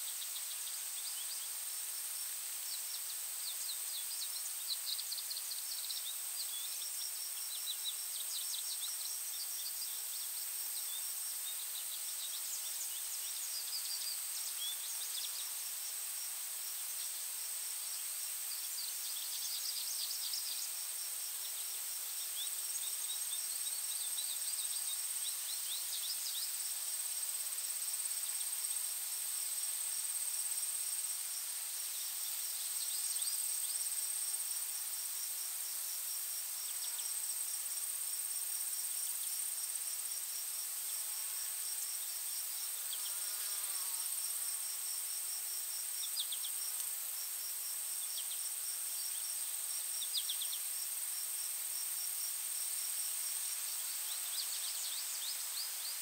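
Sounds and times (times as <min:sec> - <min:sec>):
rapid pulsed insect chirping: 0:00.0 - 0:56.0
soft steady hiss: 0:00.0 - 0:56.0.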